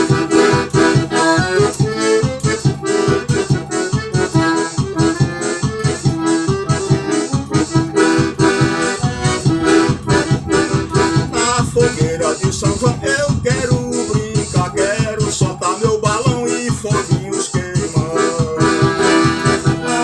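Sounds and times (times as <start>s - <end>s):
accordion melody: 0.0s - 20.0s
bass and drum beat: 0.0s - 20.0s.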